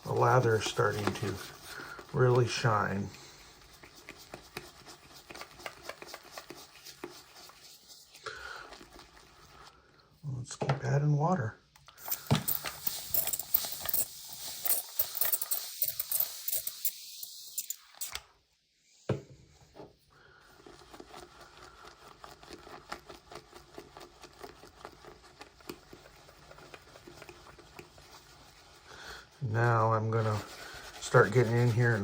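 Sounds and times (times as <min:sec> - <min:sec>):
shaving brush whisking lather: 0:00.0 - 0:09.9, 0:12.0 - 0:18.1, 0:20.4 - 0:32.0.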